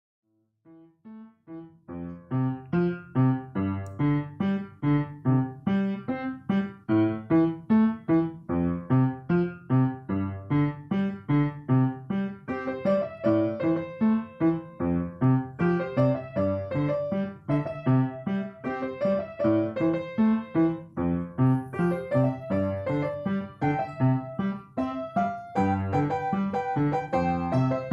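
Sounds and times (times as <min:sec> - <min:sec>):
piano music: 0:00.7 - 0:27.9.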